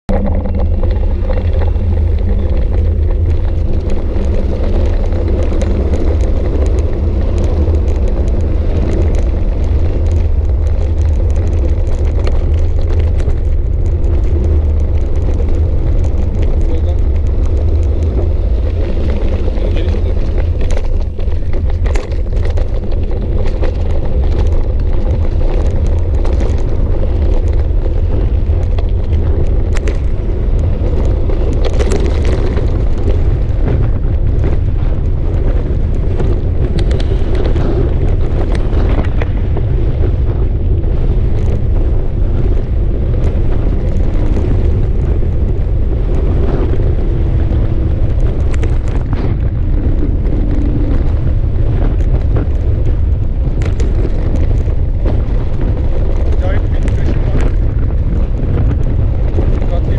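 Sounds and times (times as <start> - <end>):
bike tyres rattling on gravel: 0.0 - 59.9
wind rumble on microphone: 0.0 - 59.9.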